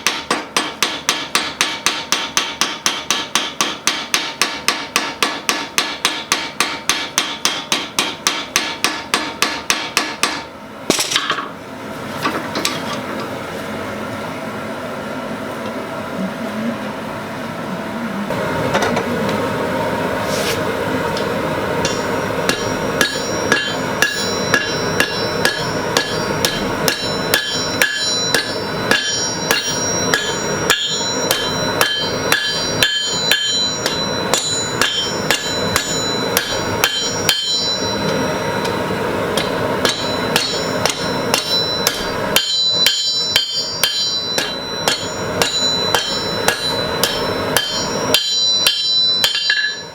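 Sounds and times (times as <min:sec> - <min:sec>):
hammer striking metal on anvil: 0:00.0 - 0:11.5, 0:21.1 - 0:49.9.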